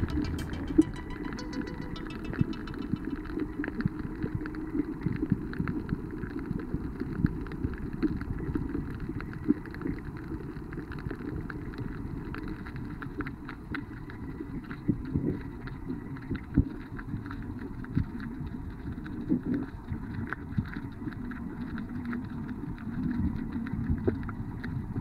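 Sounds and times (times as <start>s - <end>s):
crackling clicks: 0.0s - 25.0s
muffled underwater rumble: 0.0s - 25.0s.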